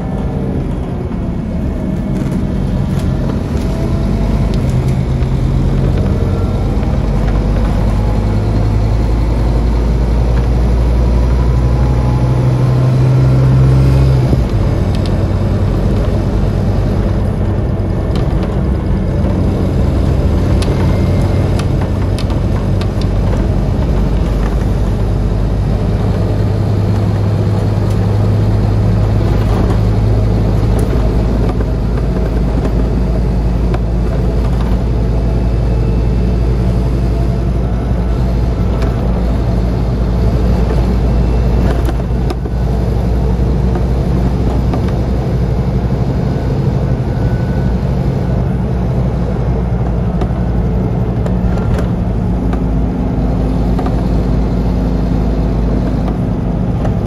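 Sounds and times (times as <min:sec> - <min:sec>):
bus diesel engine under load: 0:00.0 - 0:57.0.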